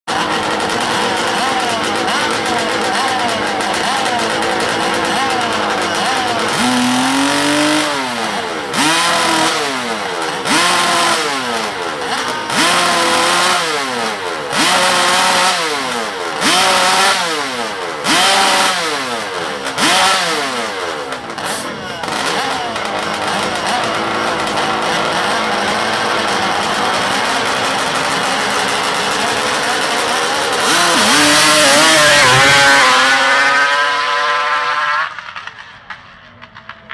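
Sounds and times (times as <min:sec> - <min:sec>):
motorcycle engine revving: 0:00.1 - 0:36.9.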